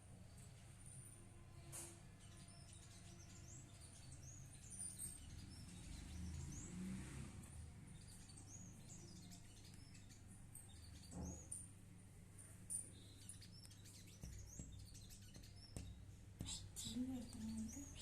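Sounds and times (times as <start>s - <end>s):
small birds chirping: 2.0s - 18.0s.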